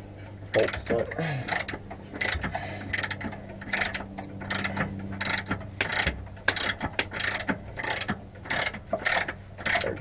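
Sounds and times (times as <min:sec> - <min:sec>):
ratchet wrench clicking: 0:00.5 - 0:10.0.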